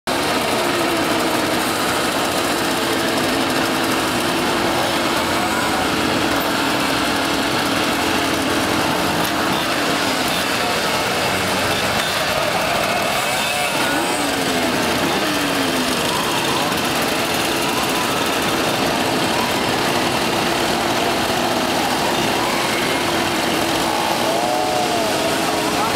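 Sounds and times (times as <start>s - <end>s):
moped engines idling: 0.1s - 25.9s
moped engines revving: 0.1s - 25.9s.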